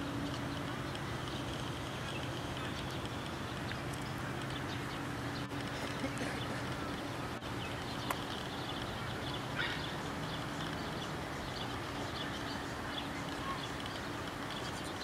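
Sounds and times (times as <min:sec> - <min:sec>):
faint low hum: 0:00.0 - 0:15.0
small birds chirping: 0:00.0 - 0:15.0
steady background hiss: 0:00.0 - 0:15.0.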